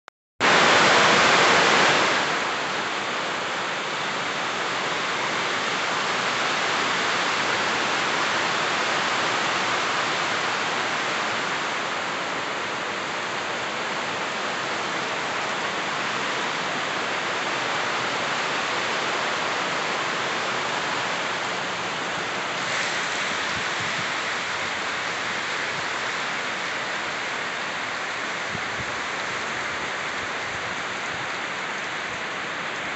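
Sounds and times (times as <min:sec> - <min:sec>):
heavy rain pouring: 0:00.4 - 0:32.9.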